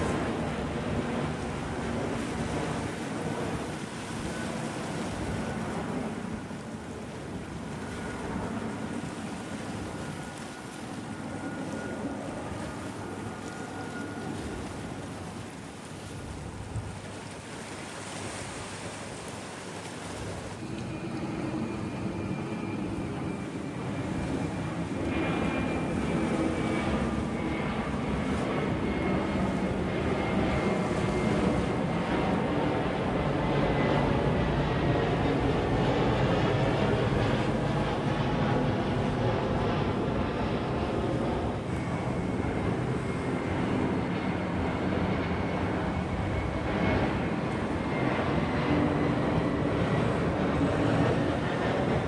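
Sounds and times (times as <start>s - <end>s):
aircraft engines passing: 0.0s - 52.0s
faint high whine: 0.0s - 52.0s.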